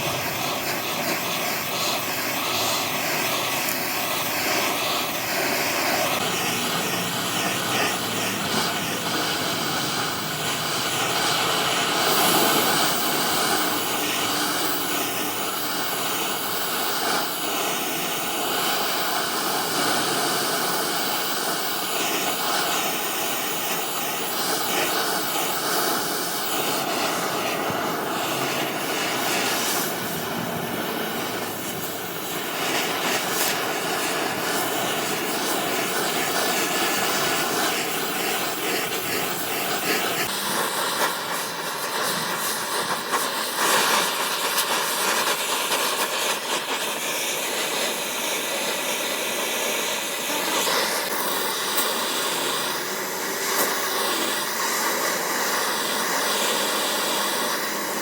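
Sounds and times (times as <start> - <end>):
metalworking machinery with high whine: 0.0 - 58.0.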